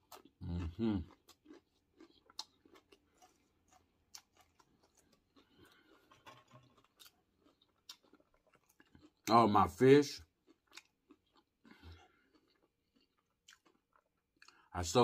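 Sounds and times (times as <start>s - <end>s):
chewing mouth clicks and smacks: 0.0s - 9.4s, 10.2s - 14.7s.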